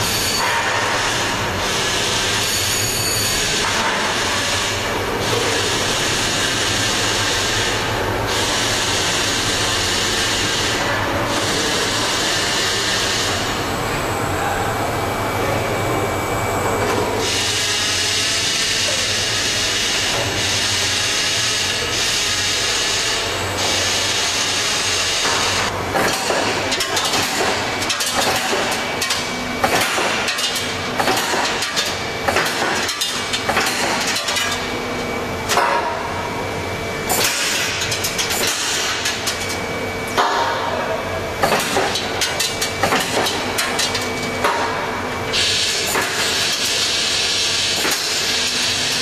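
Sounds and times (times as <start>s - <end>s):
machine hiss and rumble: 0.0s - 49.0s.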